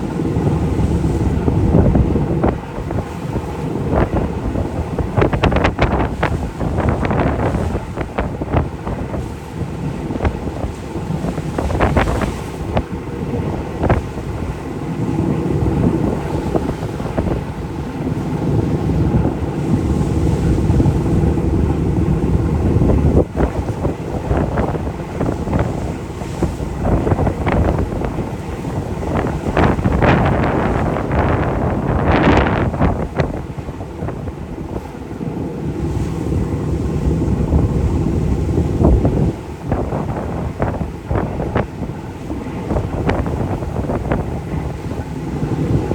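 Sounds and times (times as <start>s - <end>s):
sea wash: 0.0s - 45.9s
wind buffeting microphone: 0.0s - 45.9s.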